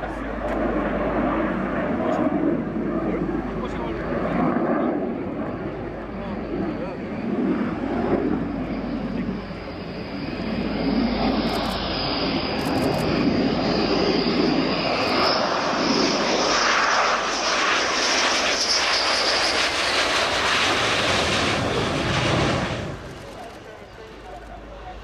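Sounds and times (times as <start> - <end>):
jet engine noise with whine: 0.0 - 25.0.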